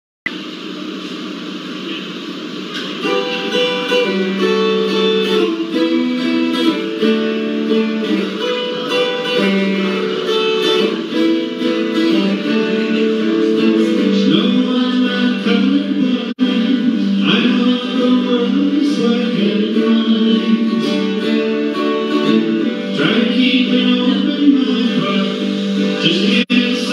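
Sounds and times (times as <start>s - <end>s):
acoustic guitar playing: 2.6s - 26.9s.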